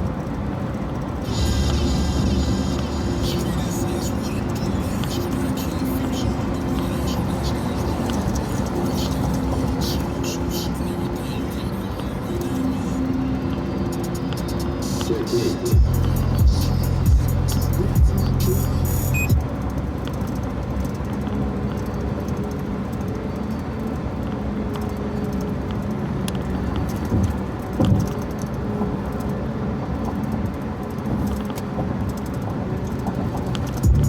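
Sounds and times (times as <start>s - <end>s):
truck cab road noise drone: 0.0s - 34.0s.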